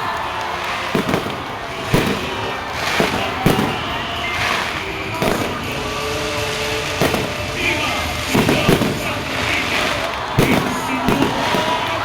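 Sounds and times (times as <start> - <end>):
crowd noise: 0.0 - 12.0
fireworks bangs: 0.0 - 12.0
fireworks crackling: 0.0 - 12.0.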